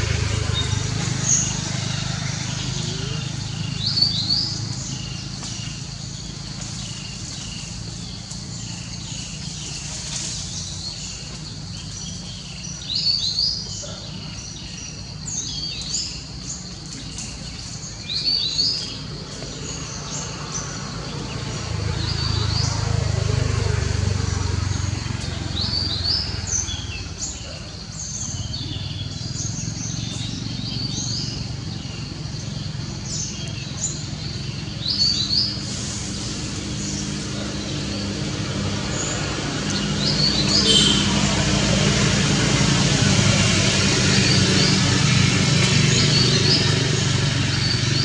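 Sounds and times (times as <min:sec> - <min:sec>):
small birds chirping: 0:00.0 - 0:48.0
vehicle engine hum: 0:00.0 - 0:48.0.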